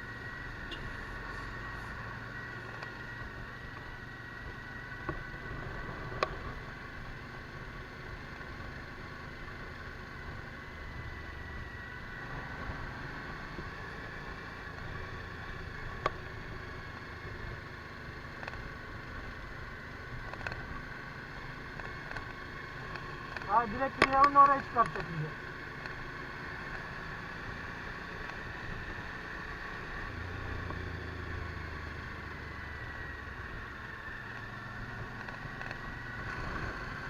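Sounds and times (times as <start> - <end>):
motorcycle engine running: 0.0 - 37.0
road and wind noise: 0.0 - 37.0
steady whine: 0.0 - 37.0.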